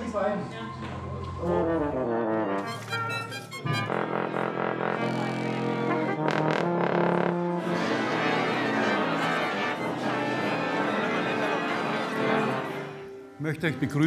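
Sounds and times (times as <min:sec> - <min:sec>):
orchestra warming up: 0:00.0 - 0:14.0
brass instruments: 0:01.4 - 0:14.0.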